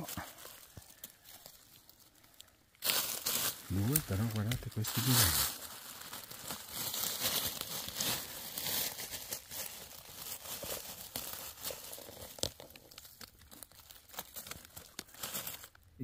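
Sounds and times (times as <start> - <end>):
dry leaves rustling and crackling: 0.0 - 15.8.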